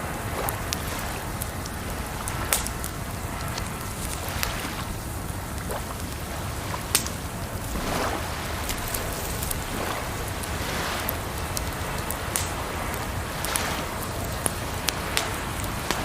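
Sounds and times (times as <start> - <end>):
rushing water: 0.0 - 16.0
wood fire crackling and popping: 0.0 - 16.0.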